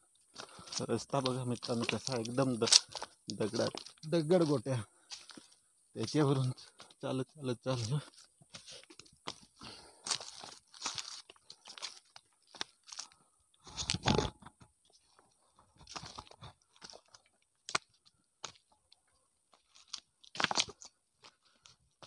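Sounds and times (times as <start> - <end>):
footsteps crunching on stony path: 0.1 - 22.0.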